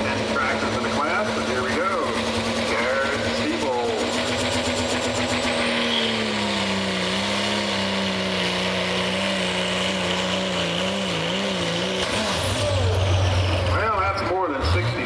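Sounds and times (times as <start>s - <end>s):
diesel truck engine at full throttle: 0.0s - 15.0s.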